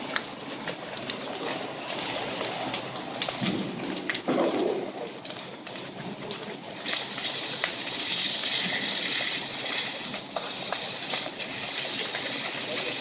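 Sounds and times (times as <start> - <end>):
burning logs crackling: 0.0 - 13.0
water from fire hoses hissing: 0.0 - 13.0.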